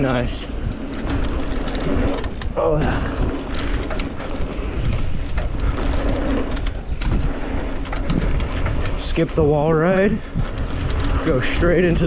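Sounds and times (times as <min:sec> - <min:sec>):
bike rattling over bumps: 0:00.0 - 0:12.0
tyres rolling on dirt: 0:00.0 - 0:12.0
wind rushing over microphone: 0:00.0 - 0:12.0.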